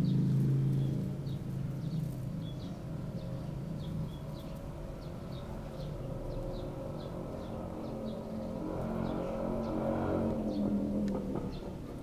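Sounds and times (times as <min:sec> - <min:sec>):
small bird chirping: 0:00.0 - 0:10.8
low engine hum: 0:00.0 - 0:12.0.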